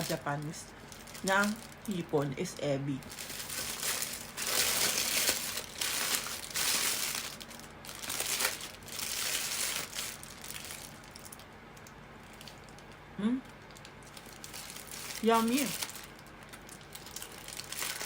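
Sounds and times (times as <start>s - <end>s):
burger wrapper crinkling: 0.0s - 18.0s.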